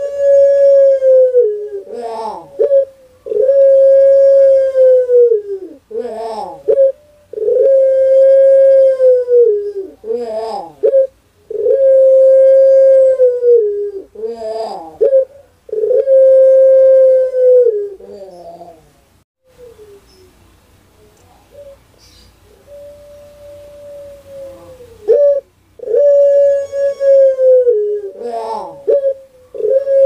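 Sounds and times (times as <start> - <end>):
dove cooing: 0.0 - 20.4, 21.0 - 30.0.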